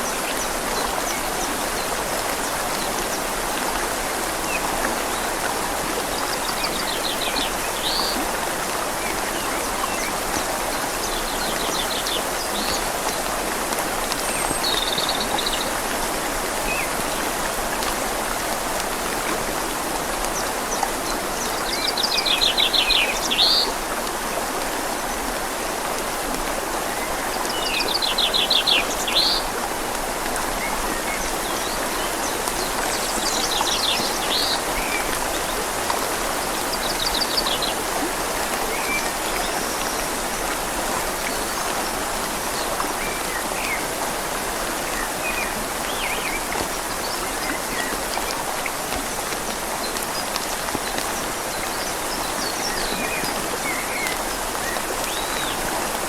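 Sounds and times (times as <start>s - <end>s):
rain falling on leaves: 0.0s - 56.0s
river flowing: 0.0s - 56.0s.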